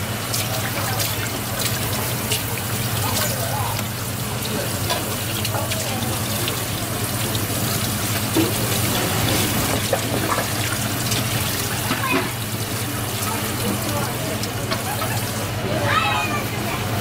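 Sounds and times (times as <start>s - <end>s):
water spraying from hose nozzle: 0.0s - 15.6s.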